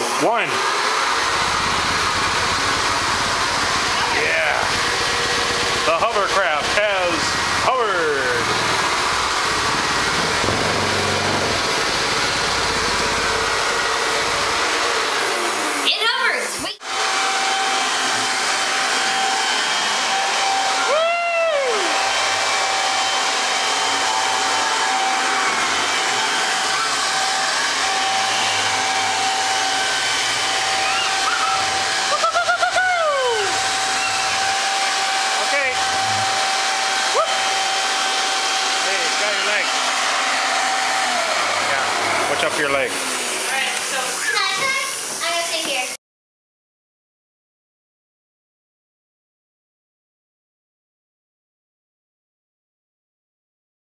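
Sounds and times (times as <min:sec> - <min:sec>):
motor whine: 0:00.0 - 0:15.9, 0:16.8 - 0:45.2
leaf blower rushing air: 0:00.0 - 0:46.0.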